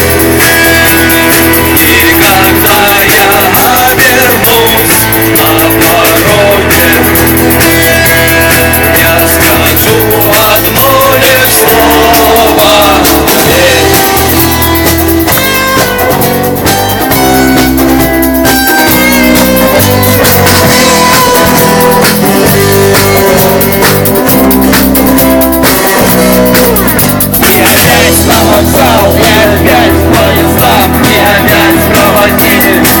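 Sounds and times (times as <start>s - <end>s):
bass guitar: 0.0s - 33.0s
drum kit: 0.0s - 33.0s
electric guitar: 0.0s - 33.0s.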